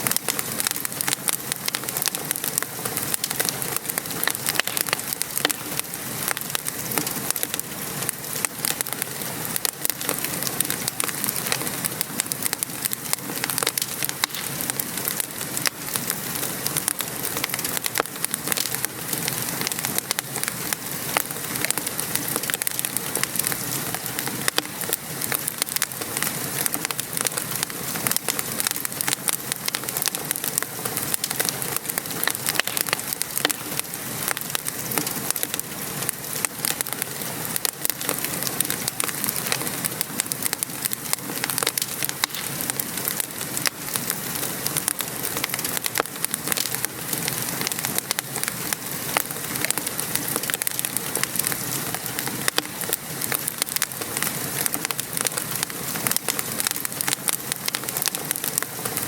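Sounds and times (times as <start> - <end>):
rain pattering: 0.0 - 59.0
wood fire crackling: 0.0 - 59.0.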